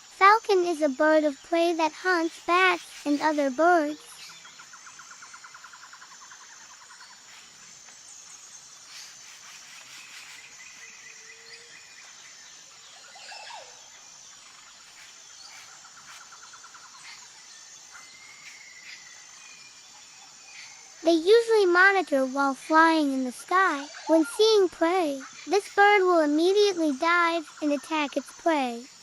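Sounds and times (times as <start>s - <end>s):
birds chirping and trilling: 0.0s - 29.0s
insects pulsing: 0.0s - 29.0s.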